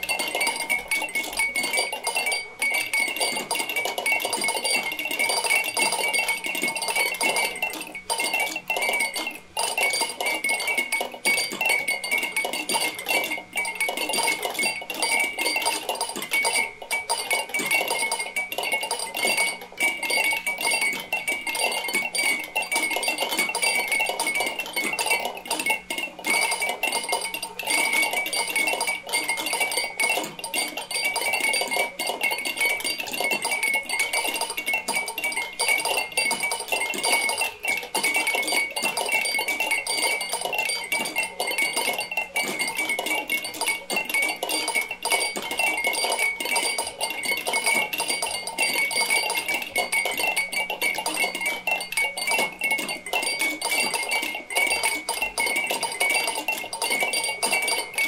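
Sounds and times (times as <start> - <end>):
steady ringing tones: 0.0 - 58.0
toys clinking and tapping: 0.0 - 58.0.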